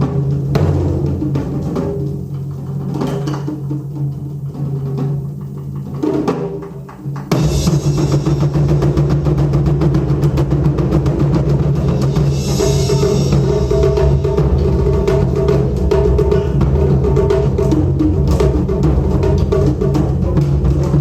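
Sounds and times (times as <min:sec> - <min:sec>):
taiko drum ensemble playing: 0:00.0 - 0:21.0.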